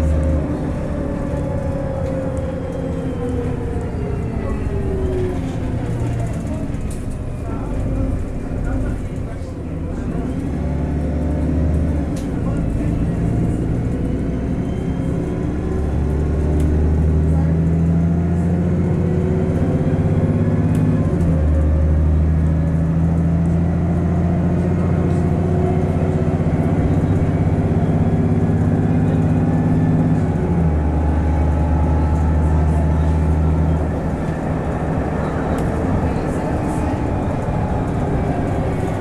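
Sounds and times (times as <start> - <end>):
bus diesel engine driving hard: 0.0 - 39.0.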